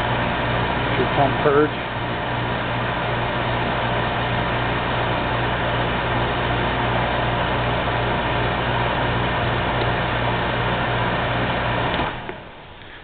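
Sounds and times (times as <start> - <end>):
dehumidifier running: 0.0 - 13.0.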